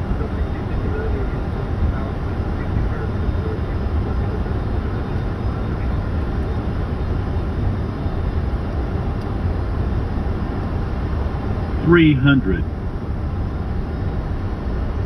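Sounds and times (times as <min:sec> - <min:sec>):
cockpit airflow and engine noise: 0:00.0 - 0:15.0.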